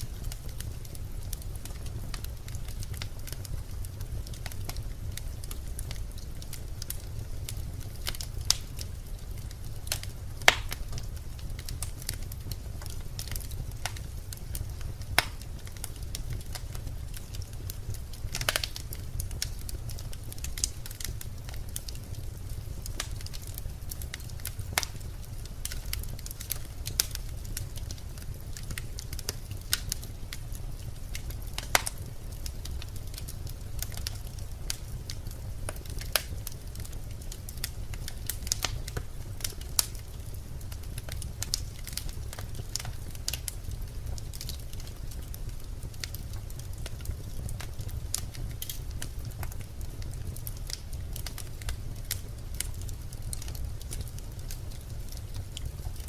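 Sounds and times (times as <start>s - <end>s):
logs burning in a fireplace: 0.0s - 56.0s.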